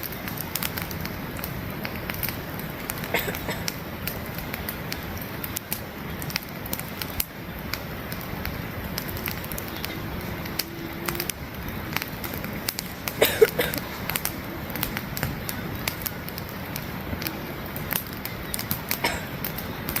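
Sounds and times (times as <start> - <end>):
campfire crackling and popping: 0.0 - 20.0
low rush of flames: 0.0 - 20.0.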